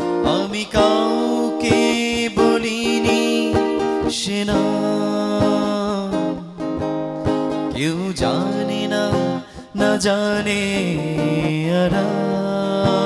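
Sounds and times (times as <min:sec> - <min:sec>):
man singing long notes: 0:00.0 - 0:06.8, 0:07.6 - 0:13.0
acoustic guitar: 0:00.0 - 0:13.0.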